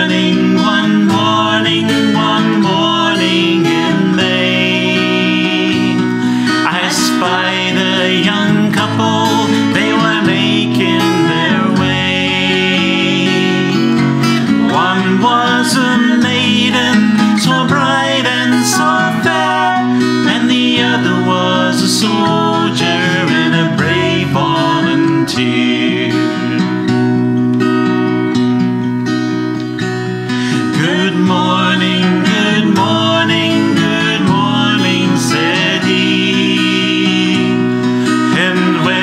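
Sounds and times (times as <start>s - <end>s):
man and woman singing folk song: 0.0s - 27.2s, 29.8s - 39.0s
acoustic guitar: 0.0s - 39.0s.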